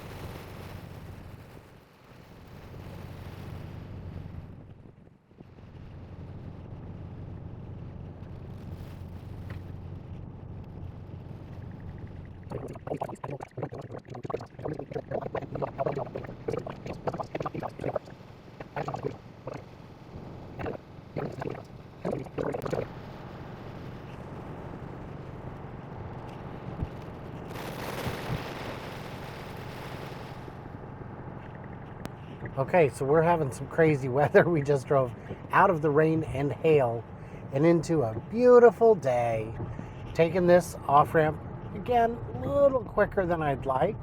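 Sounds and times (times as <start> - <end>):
low road hum: 0.0 - 44.0.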